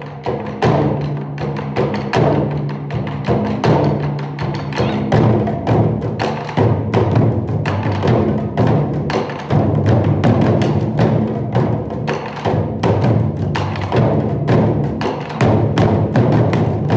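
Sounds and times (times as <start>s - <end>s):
quick drum strikes: 0.0s - 16.9s.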